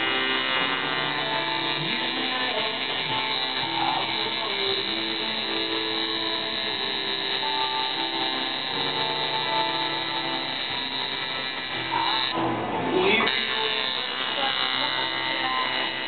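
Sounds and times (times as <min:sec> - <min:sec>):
guitar music: 0:00.0 - 0:16.0
tattoo machine buzzing: 0:00.0 - 0:16.0.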